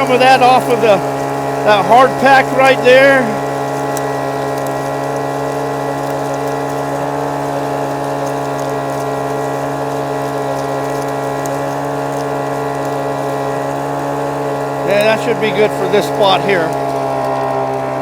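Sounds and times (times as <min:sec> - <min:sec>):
small gas engine running: 0:00.0 - 0:18.0
vacuum sucking up gravel: 0:00.0 - 0:18.0.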